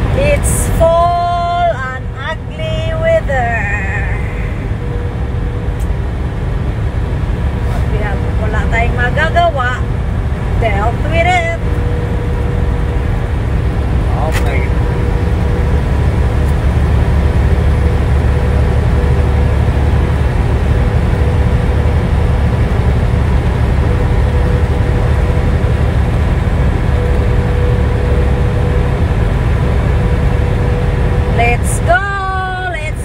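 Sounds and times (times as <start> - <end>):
truck engine and road drone: 0.0 - 33.0.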